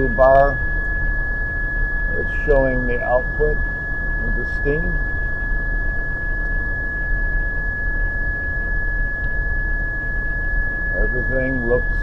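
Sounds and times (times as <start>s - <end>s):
high-pitched whine: 0.0s - 12.0s
hvac fans rumbling: 0.0s - 12.0s.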